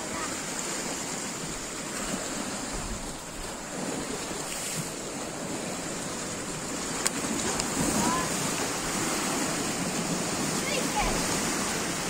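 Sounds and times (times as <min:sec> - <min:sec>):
waves washing against rocky shore: 0:00.0 - 0:12.0.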